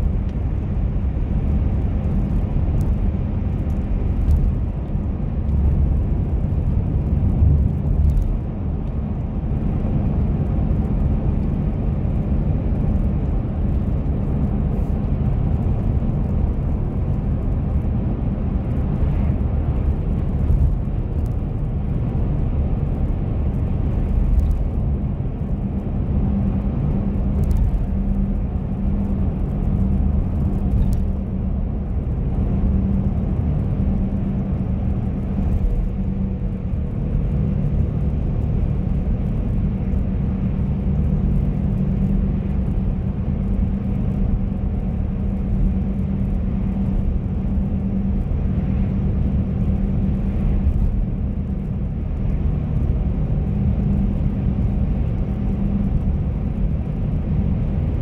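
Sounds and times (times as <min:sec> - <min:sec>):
car engine rumble: 0:00.0 - 0:58.0.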